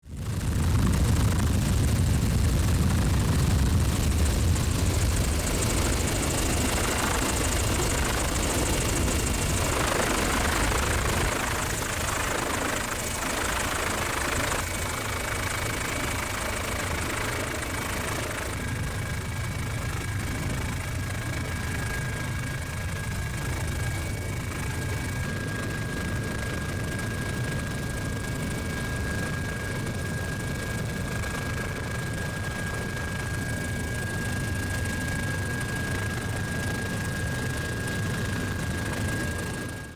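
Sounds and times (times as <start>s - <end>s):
helicopter cabin drone: 0.1s - 39.9s.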